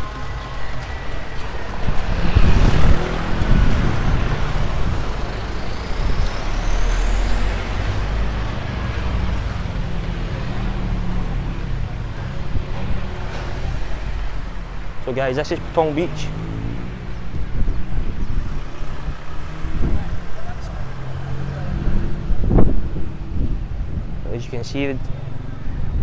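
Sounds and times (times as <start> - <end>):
steady road rumble: 0.0 - 26.0
vehicles passing: 0.0 - 26.0.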